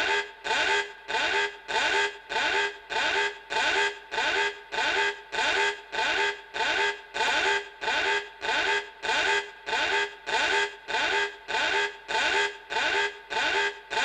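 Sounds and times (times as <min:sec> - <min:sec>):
car alarm pulsing: 0:00.0 - 0:14.0.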